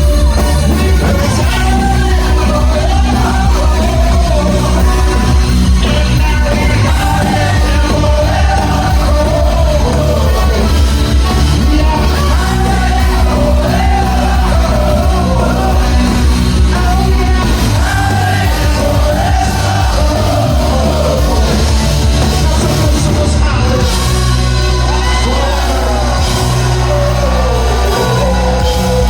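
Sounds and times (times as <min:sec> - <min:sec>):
live rock band: 0:00.0 - 0:29.0
sung and shouted lead vocal: 0:00.0 - 0:29.0.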